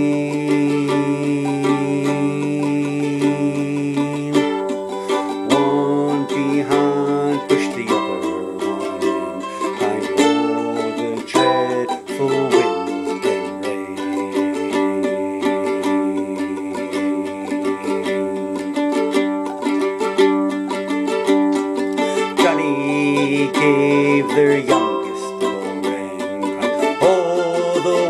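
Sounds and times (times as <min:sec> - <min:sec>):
mandolin playing folk waltz: 0:00.0 - 0:28.0.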